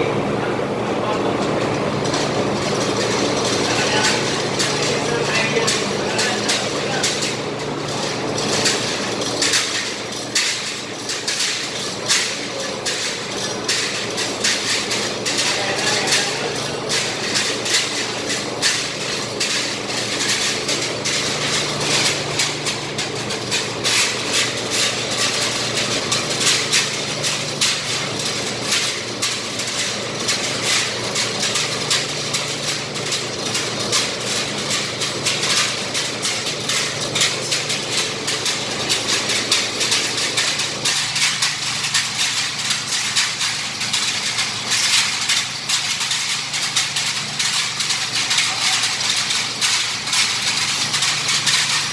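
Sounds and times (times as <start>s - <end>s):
low machine hum: 0.0s - 51.9s
metal clattering and rattling: 1.4s - 51.9s.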